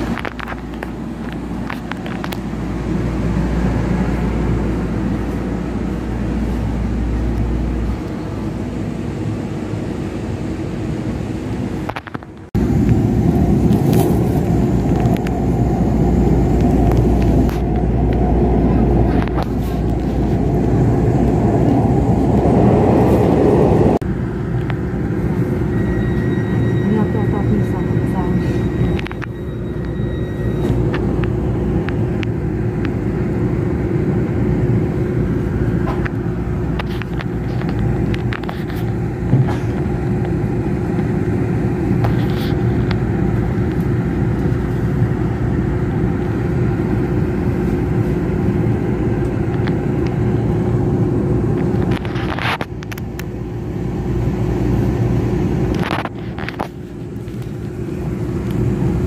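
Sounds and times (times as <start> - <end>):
diesel locomotive engine rumble: 0.0 - 59.0.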